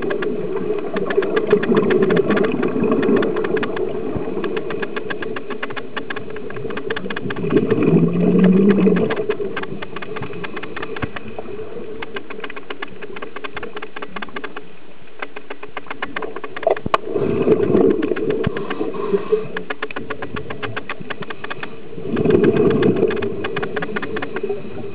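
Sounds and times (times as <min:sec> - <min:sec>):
regulator bubbles rumbling: 0:00.0 - 0:14.5, 0:16.1 - 0:24.9
dense crackle of clicks underwater: 0:00.0 - 0:24.9.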